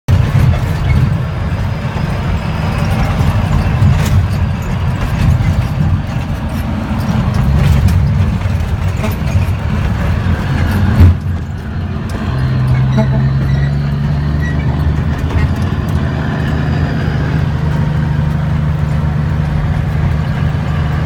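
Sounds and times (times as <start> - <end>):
diesel truck engine rumbling: 0.1 - 21.0.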